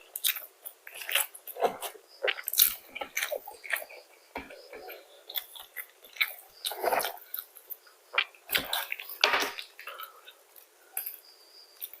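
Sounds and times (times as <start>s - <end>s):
crunchy bites and chewing: 0.0s - 12.0s.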